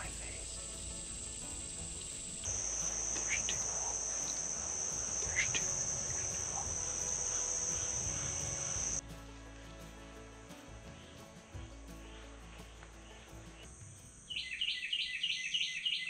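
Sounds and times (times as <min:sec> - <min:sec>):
insects trilling: 0:00.0 - 0:09.0, 0:11.0 - 0:16.0.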